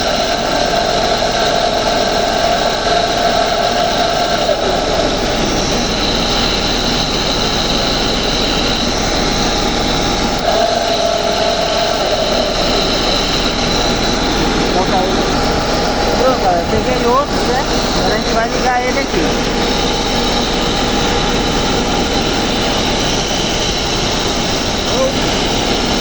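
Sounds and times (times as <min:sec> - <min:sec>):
air conditioner fans running: 0:00.0 - 0:26.0
thin high whine: 0:00.0 - 0:26.0
whining fan tone: 0:00.0 - 0:26.0.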